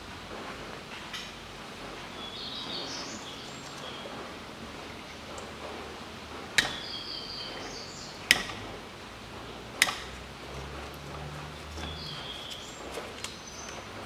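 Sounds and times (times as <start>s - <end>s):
birds chirping faintly: 2.0s - 14.0s.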